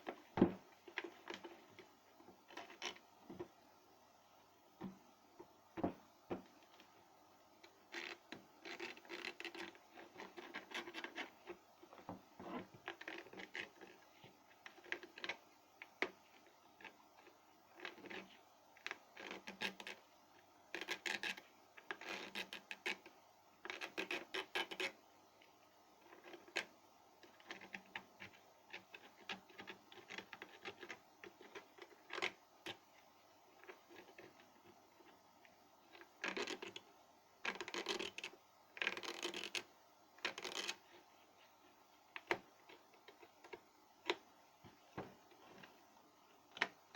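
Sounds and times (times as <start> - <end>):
scraping and rubbing small parts: 0.0 - 3.6, 7.6 - 25.0, 26.0 - 46.9.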